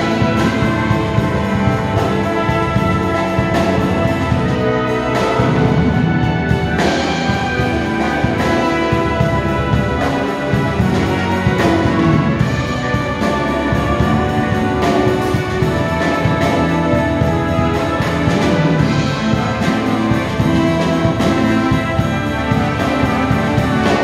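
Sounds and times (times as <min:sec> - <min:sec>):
brass chords: 0:00.0 - 0:24.0
steady drum beat: 0:00.0 - 0:24.0.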